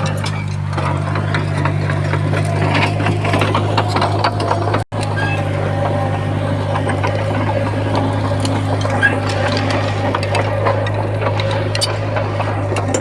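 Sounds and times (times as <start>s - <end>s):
diesel machinery engine hum: 0.0s - 13.0s
machinery clanking and rattling: 0.0s - 13.0s.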